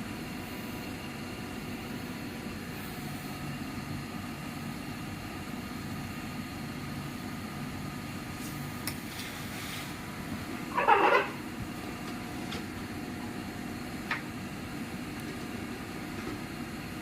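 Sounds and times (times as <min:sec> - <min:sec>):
microwave oven running: 0:00.0 - 0:17.0.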